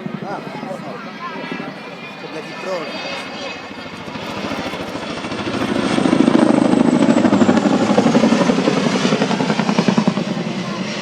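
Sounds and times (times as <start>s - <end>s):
helicopter rotors beating: 0.0s - 11.0s.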